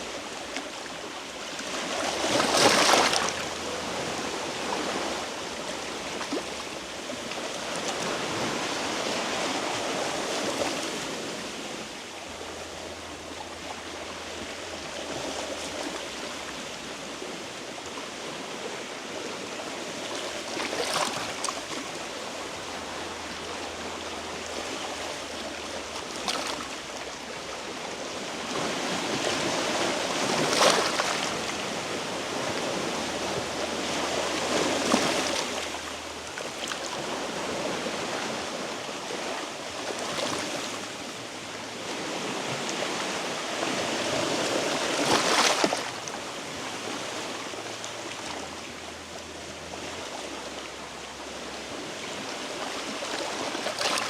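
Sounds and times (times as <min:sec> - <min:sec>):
waves washing against rocky shore: 0:00.0 - 0:54.0.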